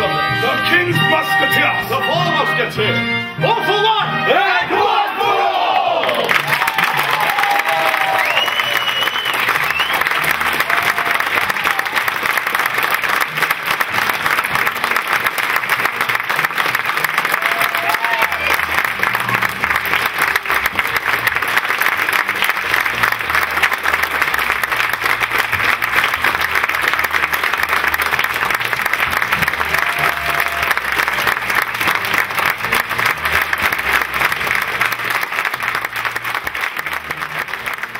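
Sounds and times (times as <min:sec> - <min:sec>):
audience applause: 0:04.8 - 0:37.9.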